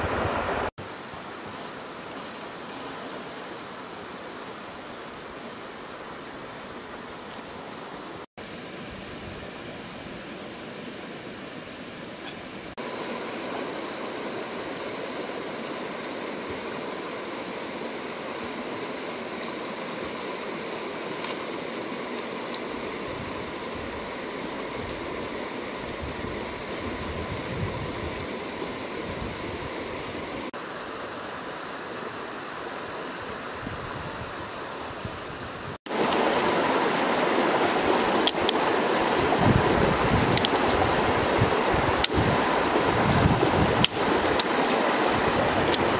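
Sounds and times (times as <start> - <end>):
river running over rocks: 0.0 - 45.9.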